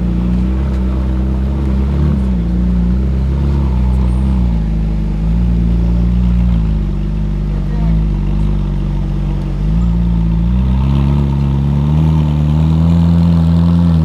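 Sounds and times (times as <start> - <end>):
car engine at low revs: 0.0 - 14.0.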